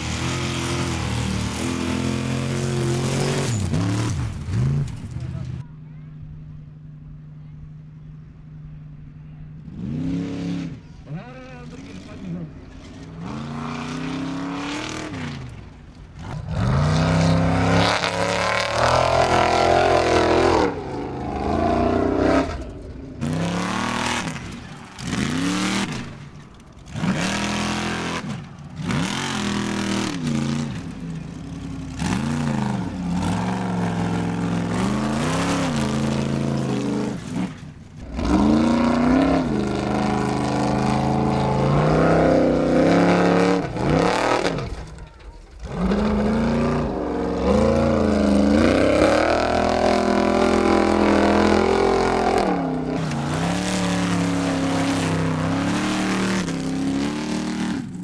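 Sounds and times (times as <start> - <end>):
buggy engine revving hard: 0.0 - 5.6, 9.6 - 58.0.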